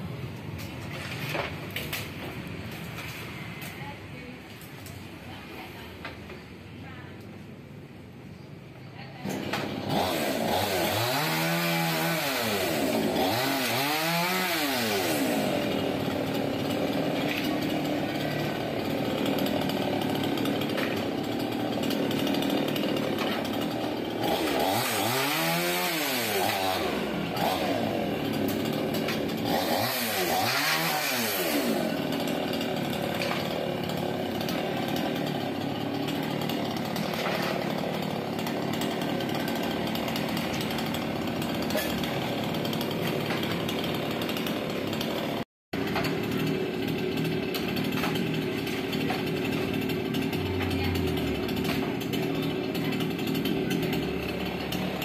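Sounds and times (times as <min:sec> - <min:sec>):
chainsaw cutting wood: 0:09.2 - 0:55.0.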